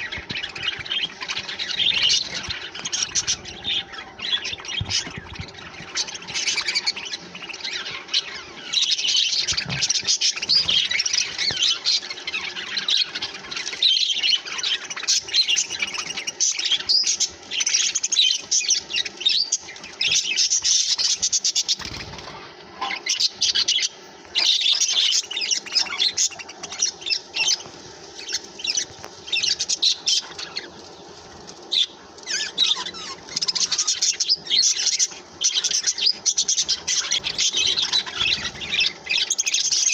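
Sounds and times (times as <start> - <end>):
budgerigars chattering: 0.0 - 31.1, 31.7 - 39.9.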